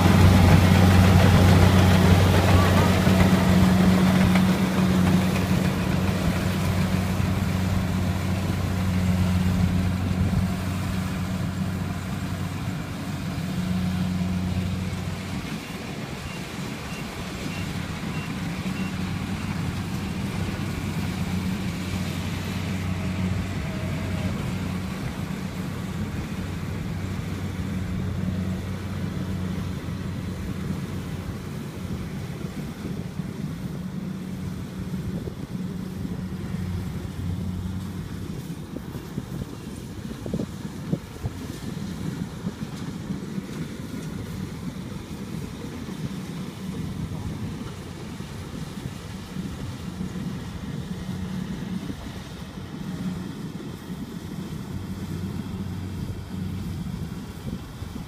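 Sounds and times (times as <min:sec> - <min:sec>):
combine harvester diesel engine: 0:00.0 - 0:58.0.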